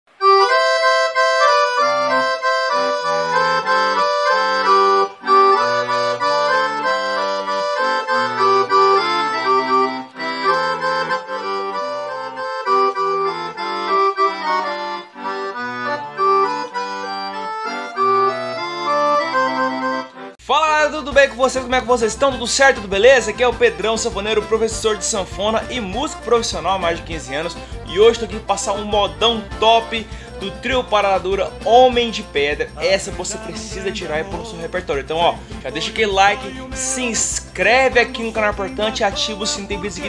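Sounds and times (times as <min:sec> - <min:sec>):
accordion playing melody: 0:00.1 - 0:40.0.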